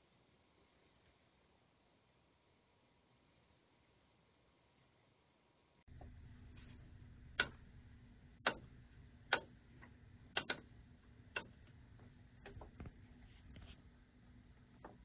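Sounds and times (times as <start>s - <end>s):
faint amplifier hum: 0.0s - 15.0s.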